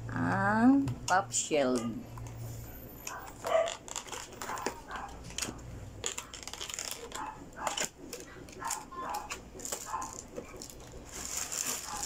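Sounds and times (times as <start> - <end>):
plastic packaging crinkling: 2.2 - 12.0.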